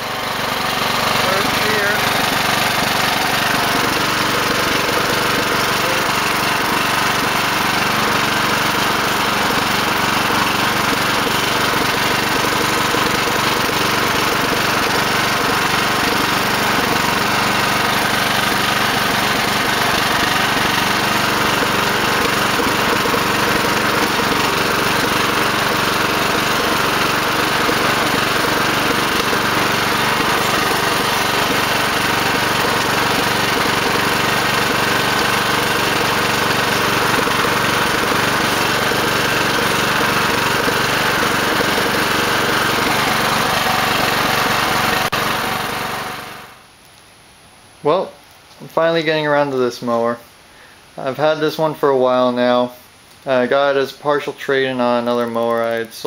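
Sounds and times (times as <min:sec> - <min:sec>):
riding mower engine running: 0:00.0 - 0:46.7, 0:53.3 - 0:56.0.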